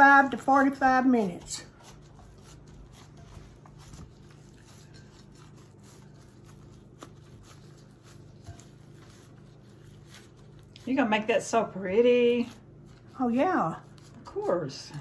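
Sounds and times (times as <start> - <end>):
plastic gloves rustling: 0.0 - 15.0
soft squishing of food mixture: 0.0 - 15.0
steady low hum: 0.0 - 15.0.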